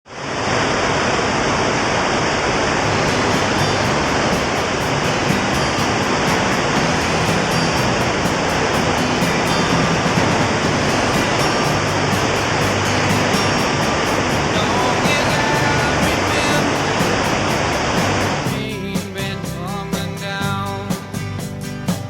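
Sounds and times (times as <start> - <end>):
rushing storm runoff water: 0.0 - 22.0.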